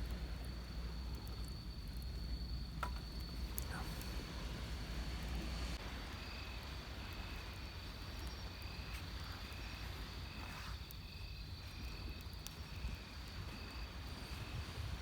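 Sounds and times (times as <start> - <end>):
insect steady high trill: 0.0 - 15.0
low rumble of waves: 0.0 - 15.0
wood fire popping: 0.0 - 15.0.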